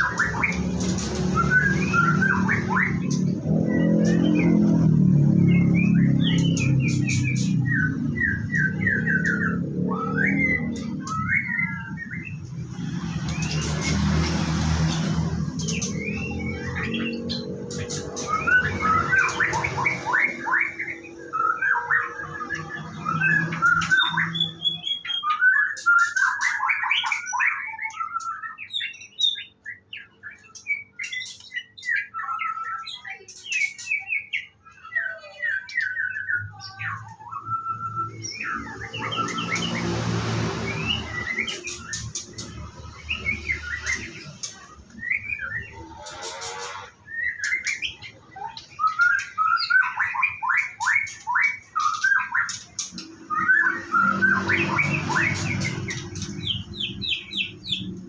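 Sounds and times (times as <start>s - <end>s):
bird singing whistled phrases: 0.0s - 12.5s, 15.6s - 39.8s, 40.6s - 57.9s.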